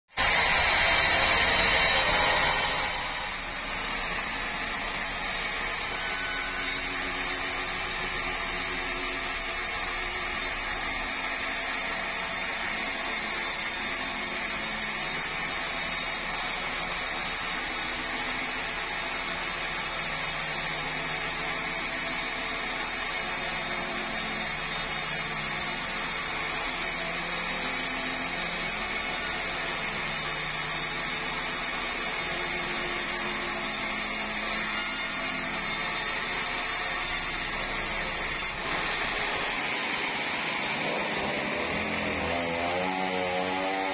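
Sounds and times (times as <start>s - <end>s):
sawmill saw running: 0.1s - 43.9s.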